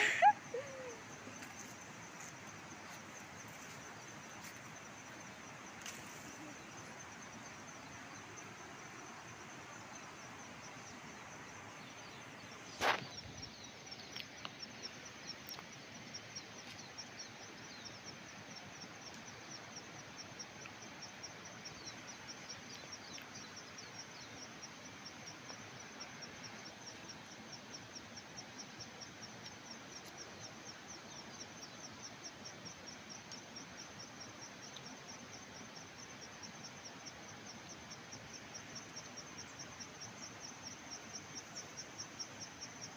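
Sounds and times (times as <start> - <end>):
insect chirping: 0.0 - 42.9
outdoor background hiss: 0.0 - 42.9.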